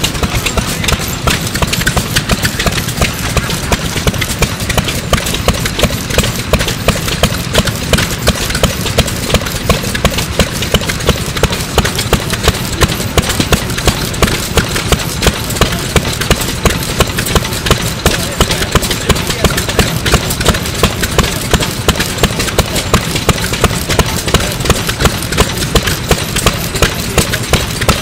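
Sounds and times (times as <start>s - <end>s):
stationary engine knocking: 0.0s - 28.0s.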